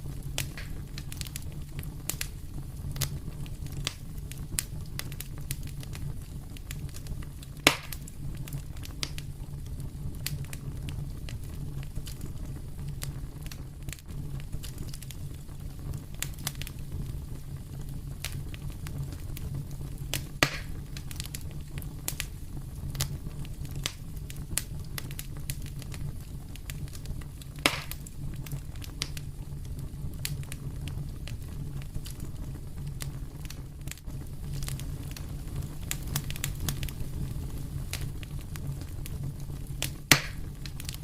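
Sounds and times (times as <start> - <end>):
fire crackling: 0.0 - 41.0
fire popping: 0.0 - 41.0.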